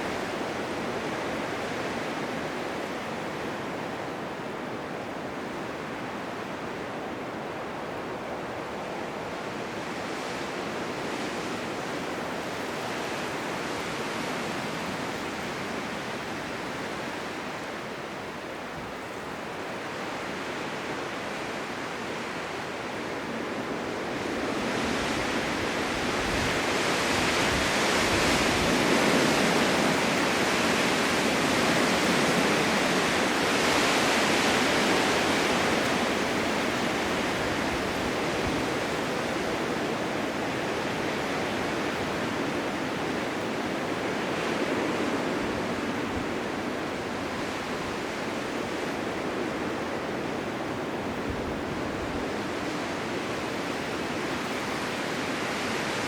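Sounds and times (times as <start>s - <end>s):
blizzard wind rushing: 0.0s - 56.0s.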